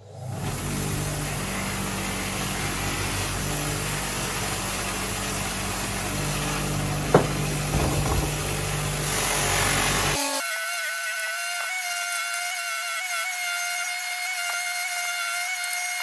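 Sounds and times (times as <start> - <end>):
bench grinder motor hum: 0.0 - 16.0.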